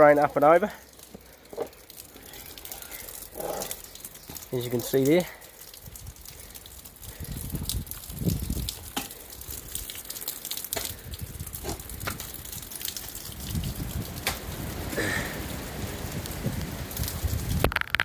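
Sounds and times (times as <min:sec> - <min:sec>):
sharp water drips: 0:00.0 - 0:18.0
water pouring and splashing: 0:00.0 - 0:18.0.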